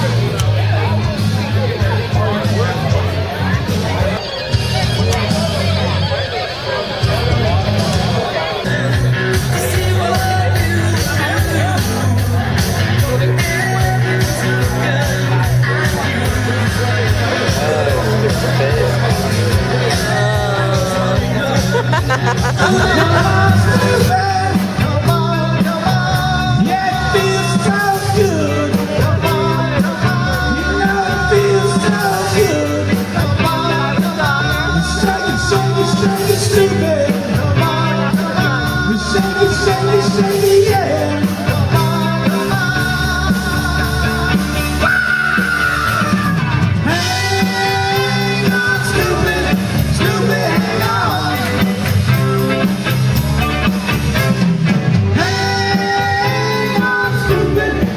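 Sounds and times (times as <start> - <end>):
rock song with singing: 0.0 - 57.9.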